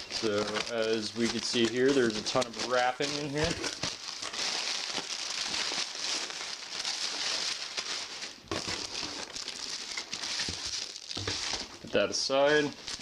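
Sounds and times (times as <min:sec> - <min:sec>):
packing wrap crinkling: 0:00.0 - 0:13.0.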